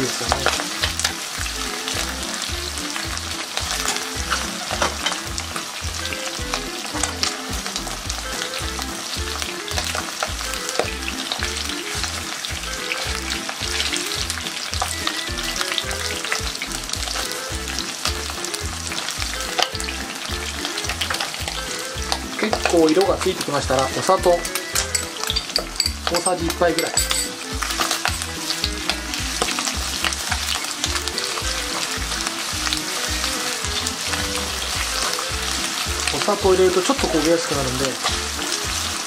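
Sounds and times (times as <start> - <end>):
chicken skin sizzling in fat: 0.0 - 39.0.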